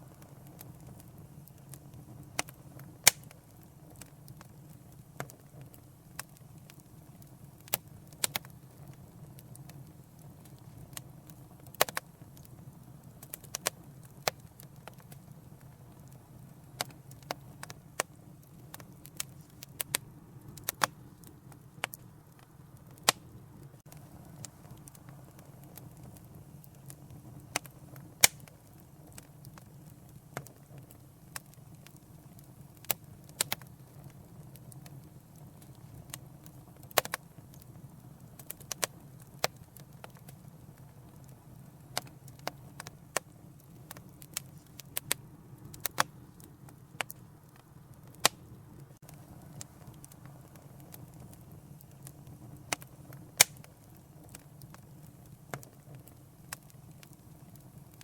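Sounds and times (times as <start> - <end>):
low rumble of flames: 0.0 - 58.0
wood fire pops and snaps: 0.0 - 58.0.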